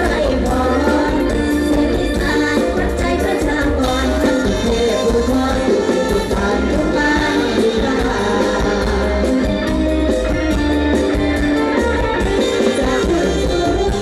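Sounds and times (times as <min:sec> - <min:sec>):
drums: 0:00.0 - 0:14.0
electric guitar: 0:00.0 - 0:14.0
group of singers: 0:00.0 - 0:14.0.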